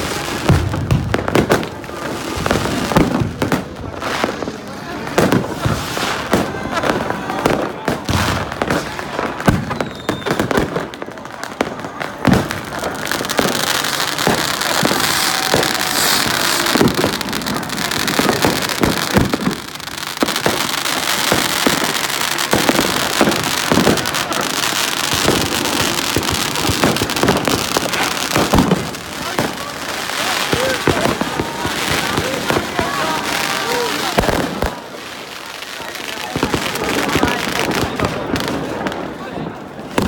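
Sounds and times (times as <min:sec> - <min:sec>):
firework crackling hiss: 0:00.0 - 0:39.2
firework bangs and pops: 0:00.0 - 0:40.0.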